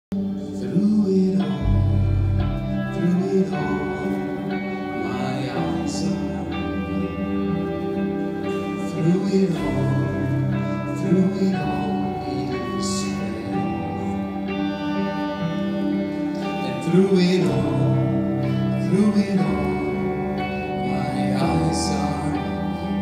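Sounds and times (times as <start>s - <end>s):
person singing: 0.2s - 23.0s
worship band music: 0.2s - 23.0s.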